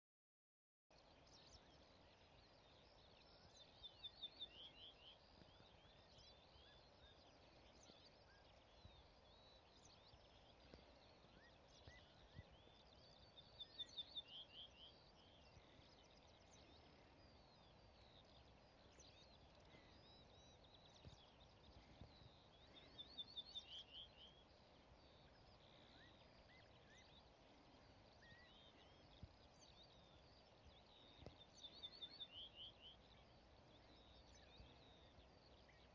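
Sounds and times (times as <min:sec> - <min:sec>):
bird singing ringing notes: 0:01.0 - 0:35.9
faint bird calls: 0:01.0 - 0:35.9.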